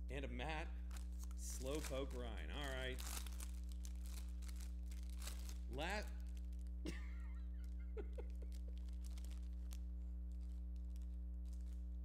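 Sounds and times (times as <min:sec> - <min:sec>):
low electrical hum: 0:00.0 - 0:12.0
foil wrapper crinkling: 0:00.8 - 0:06.8, 0:07.6 - 0:12.0.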